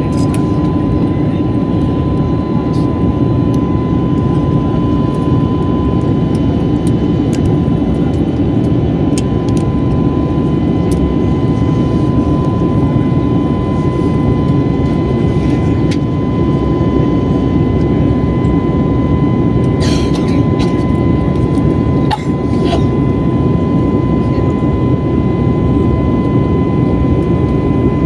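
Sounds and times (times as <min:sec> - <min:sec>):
jet engine roar in cabin: 0:00.0 - 0:28.0
thin steady whine: 0:00.0 - 0:28.0.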